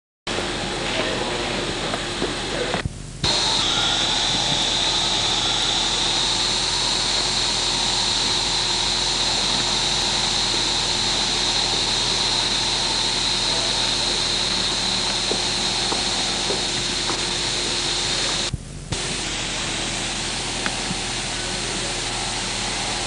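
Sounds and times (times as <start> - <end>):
diesel locomotive engine running: 0.3 - 23.0
turbocharger whistle: 3.2 - 23.0.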